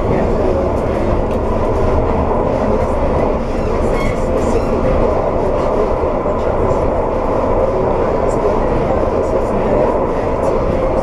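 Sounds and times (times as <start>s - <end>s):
tram wheels rumbling on rail: 0.0s - 11.0s.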